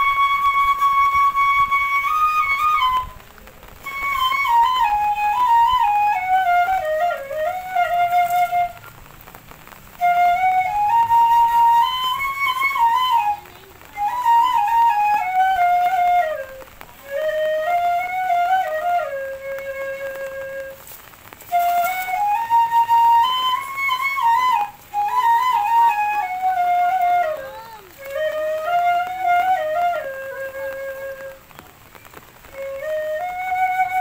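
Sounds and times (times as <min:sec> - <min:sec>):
solo flute melody: 0:00.0 - 0:34.0.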